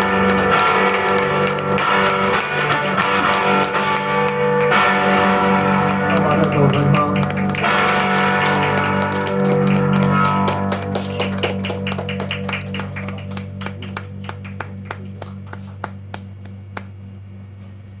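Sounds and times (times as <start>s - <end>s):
guitar and bass ringing chord: 0.0s - 18.0s.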